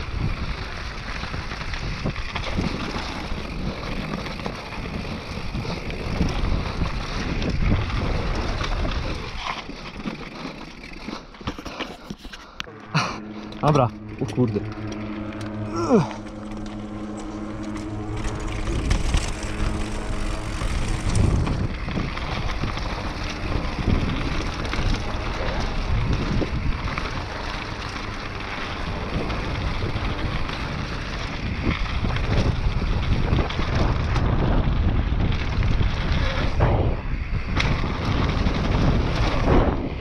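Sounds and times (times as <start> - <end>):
wind rush on microphone: 0.0 - 9.5, 16.8 - 40.0
bike tyre noise: 0.0 - 40.0.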